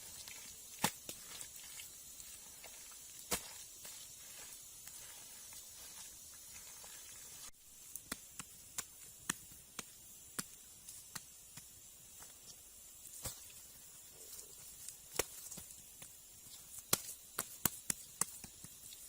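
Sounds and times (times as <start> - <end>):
high outdoor hiss: 0.0 - 19.0.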